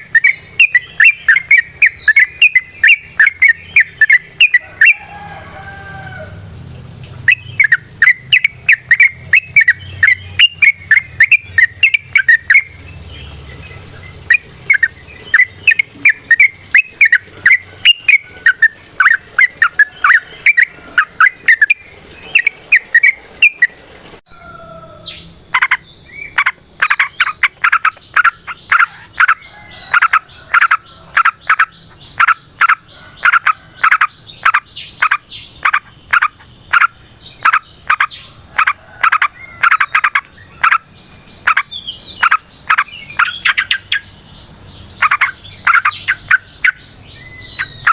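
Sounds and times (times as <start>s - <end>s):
bulbul singing chattering runs: 0.0s - 47.9s.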